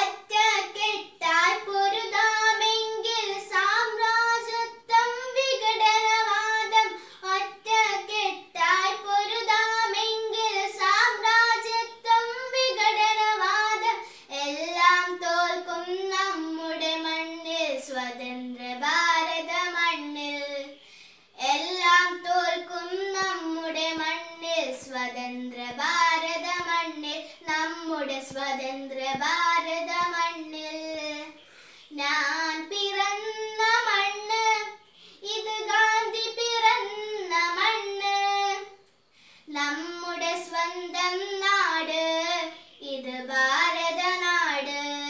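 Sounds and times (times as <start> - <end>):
girl singing unaccompanied: 0.0 - 45.0.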